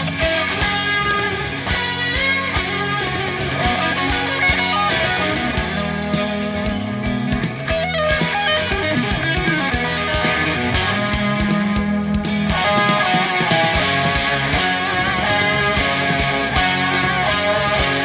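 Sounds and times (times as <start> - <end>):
bass guitar: 0.0 - 18.0
drum beat: 0.0 - 18.0
electric guitar playing: 0.0 - 18.0.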